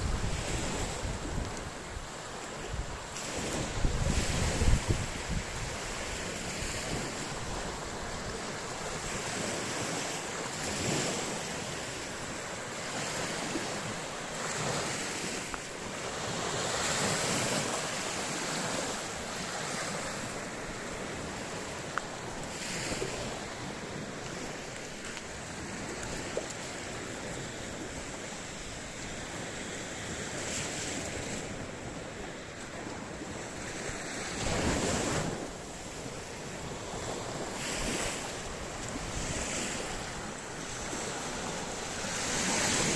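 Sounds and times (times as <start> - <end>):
sea waves breaking on shore: 0.0 - 42.9
wind buffeting microphone: 0.0 - 42.9.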